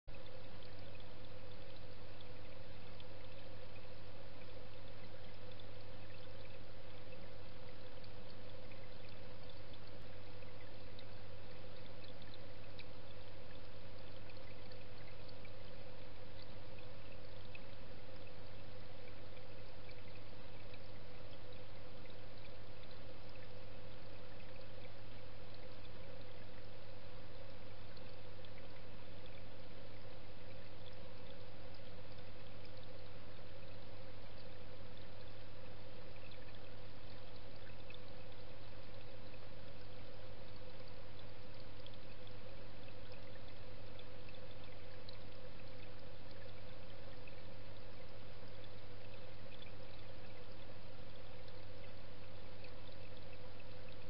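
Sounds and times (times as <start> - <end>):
low pump hum: 0.1 - 54.0.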